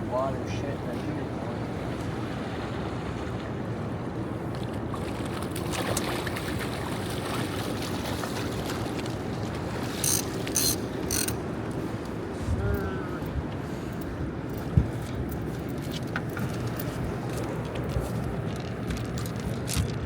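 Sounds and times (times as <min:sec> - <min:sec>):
boat engine rumble: 0:00.0 - 0:20.0
wind and water noise: 0:00.0 - 0:20.0.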